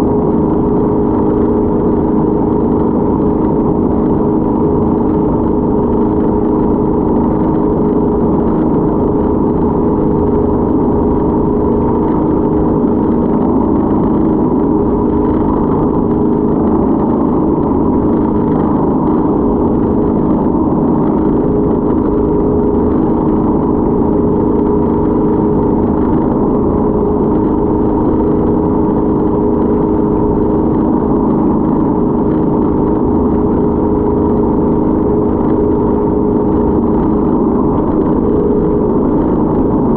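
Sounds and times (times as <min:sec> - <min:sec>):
speedboat engine running: 0:00.0 - 0:39.9.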